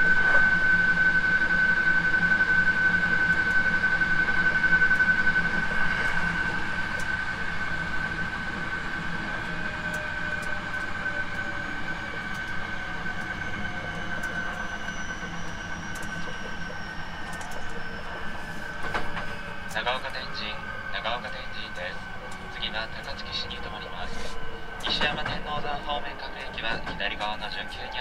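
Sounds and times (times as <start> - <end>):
electric train running: 0.0 - 28.0
faint falling whine: 0.0 - 28.0
steady high-pitched tone: 0.0 - 28.0.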